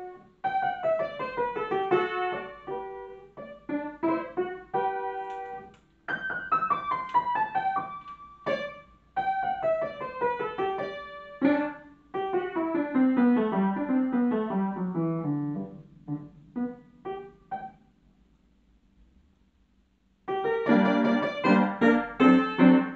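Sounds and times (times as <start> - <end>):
upright piano playing: 0.0 - 17.9, 20.3 - 22.9.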